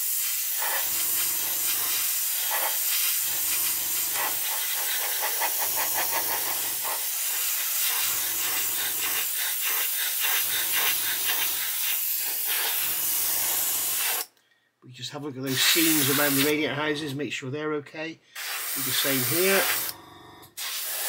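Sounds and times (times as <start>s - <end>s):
airbrush spraying hiss: 0.0s - 14.3s, 15.5s - 16.6s, 18.4s - 19.9s, 20.5s - 21.0s.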